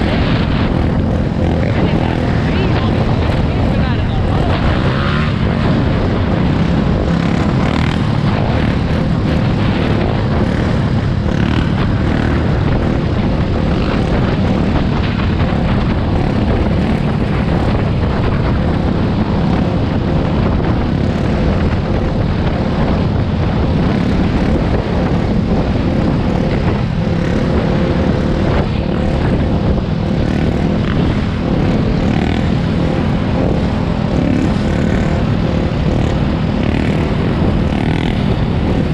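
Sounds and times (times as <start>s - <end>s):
dirt bike engine running: 0.0s - 38.9s
wind rumble on microphone: 0.0s - 38.9s.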